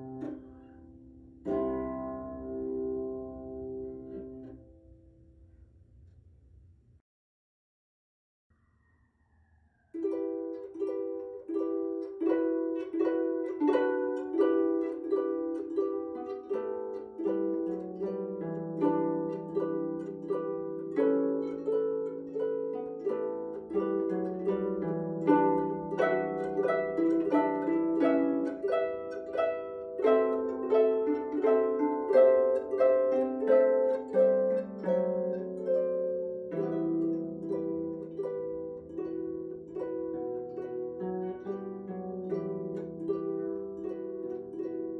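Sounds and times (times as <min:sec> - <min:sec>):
harp playing: 0:00.0 - 0:05.6, 0:09.9 - 0:44.9.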